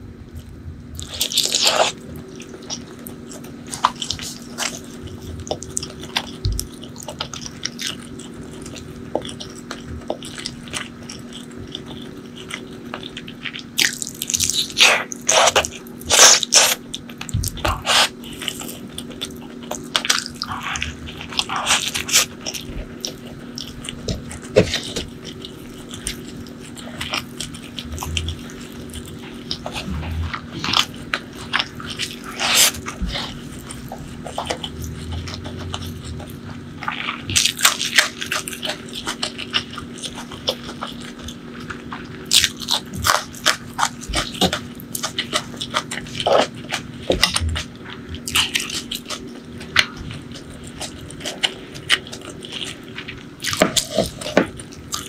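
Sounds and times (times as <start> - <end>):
faint low hum: 0.0 - 55.0
chewing with wet smacks: 0.3 - 55.0.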